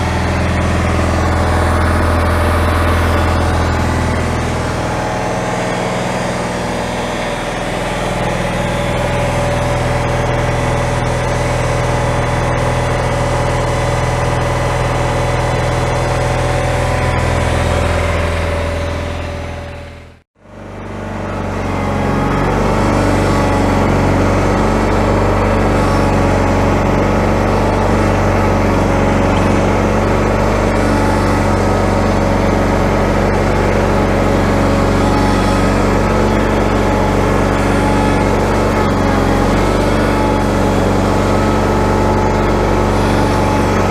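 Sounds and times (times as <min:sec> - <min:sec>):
garden tractor engine running: 0:00.0 - 0:43.9.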